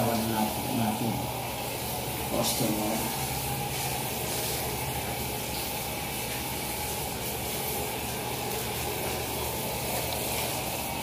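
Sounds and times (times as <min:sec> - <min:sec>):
shower water spraying on body: 0:00.0 - 0:11.0.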